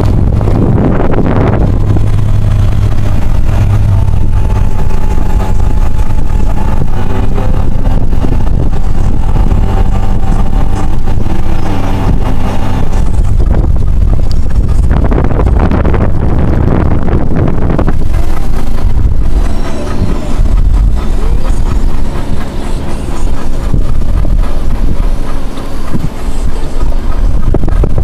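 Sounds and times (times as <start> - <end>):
car driving rumble: 0.0 - 28.0
wind buffeting microphone: 0.0 - 28.0.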